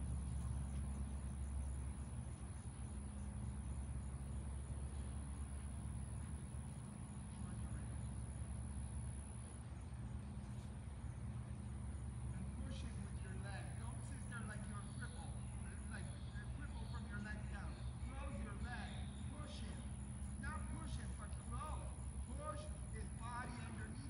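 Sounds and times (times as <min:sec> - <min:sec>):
insects chirping faintly: 0:00.0 - 0:24.0.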